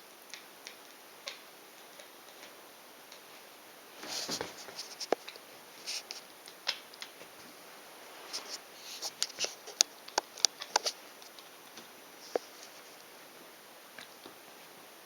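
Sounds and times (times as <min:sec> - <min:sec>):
rustling: 0:02.0 - 0:14.8.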